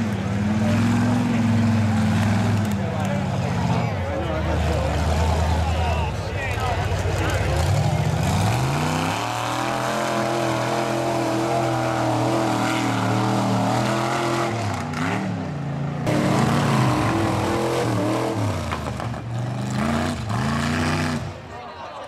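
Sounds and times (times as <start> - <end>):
truck engine revving: 0.0 - 21.6.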